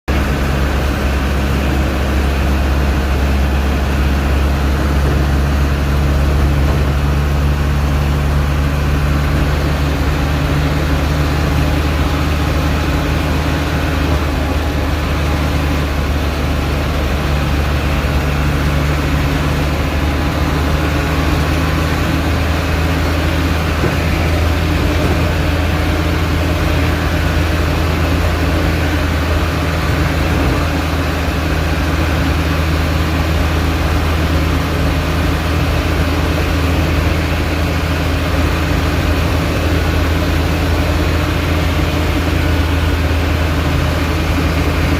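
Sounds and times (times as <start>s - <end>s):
diesel truck engine running: 0.1s - 44.9s.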